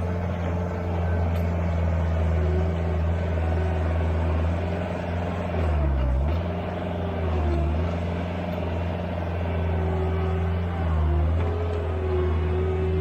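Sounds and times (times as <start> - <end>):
loader engine droning: 0.0 - 13.0.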